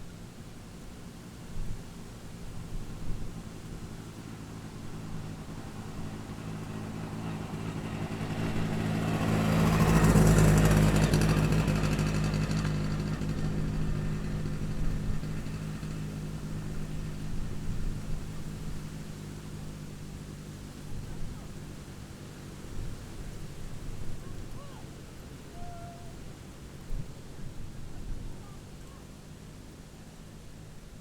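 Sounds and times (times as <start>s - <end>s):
road vehicle passing by: 0.2s - 31.0s.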